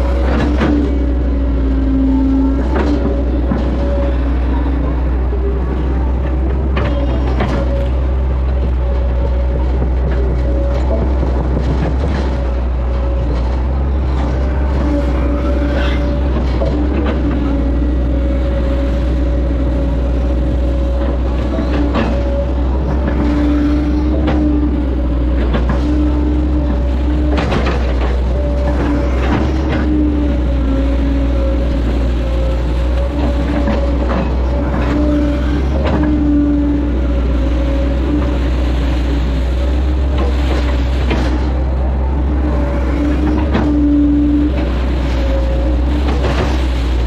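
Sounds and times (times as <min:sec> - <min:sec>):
excavator diesel engine running: 0:00.0 - 0:47.0
steady whine: 0:00.0 - 0:47.0.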